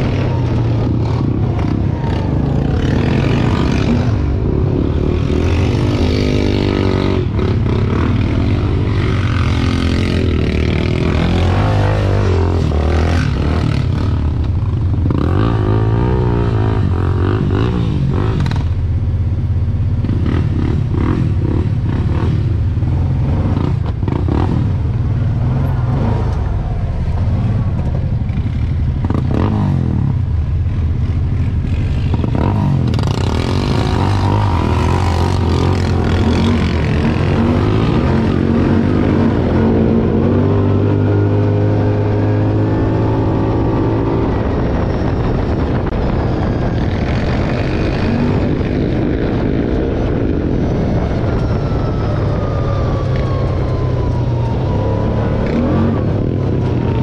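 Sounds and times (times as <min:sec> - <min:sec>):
atv engine revving: 0:00.0 - 0:19.0, 0:19.6 - 0:46.0, 0:47.0 - 0:57.0.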